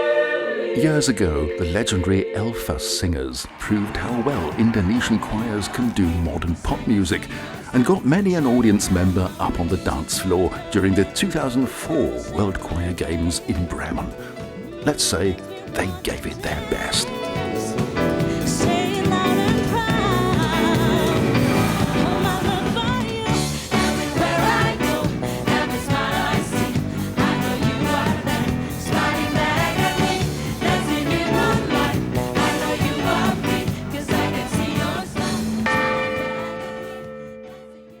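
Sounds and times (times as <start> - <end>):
choir singing pop song: 0.0 - 38.0.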